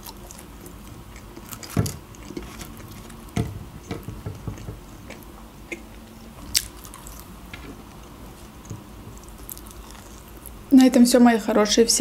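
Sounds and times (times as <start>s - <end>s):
person chewing crunchy food: 0.0s - 10.6s.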